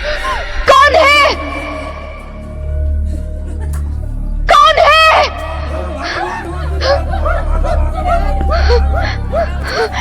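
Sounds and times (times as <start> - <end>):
background music with low drone: 0.0 - 10.0.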